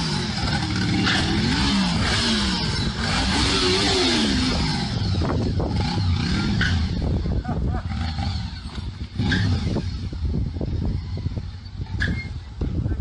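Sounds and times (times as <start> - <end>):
engine revving under load: 0.0 - 12.4
mechanical clatter and rumble: 0.0 - 13.0.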